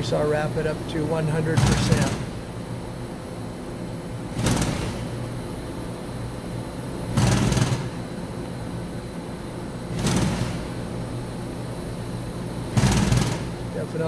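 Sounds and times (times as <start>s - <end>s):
machine axis drive hum: 0.0s - 14.0s.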